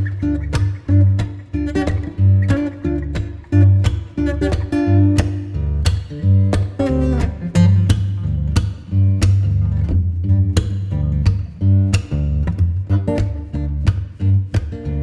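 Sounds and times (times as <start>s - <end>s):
bass with regular beat: 0.0s - 15.0s
strummed acoustic guitar: 0.0s - 15.0s.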